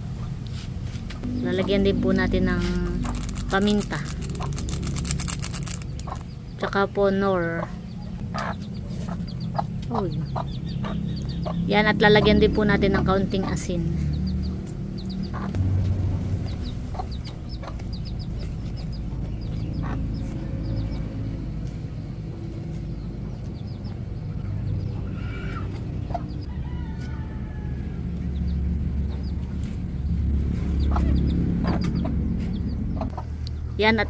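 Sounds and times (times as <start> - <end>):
steady low rumble: 0.0 - 34.0
chickens clucking: 1.2 - 15.6, 16.2 - 21.4, 22.6 - 34.0.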